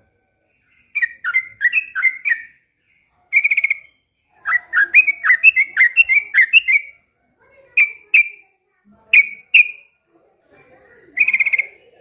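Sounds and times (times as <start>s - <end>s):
bulbul singing: 0.5s - 7.1s, 7.7s - 10.0s, 11.1s - 12.0s.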